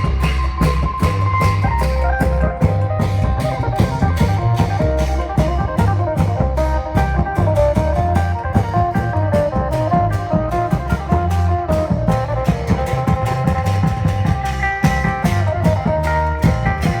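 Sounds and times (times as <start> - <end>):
long-drum band music: 0.0 - 17.0.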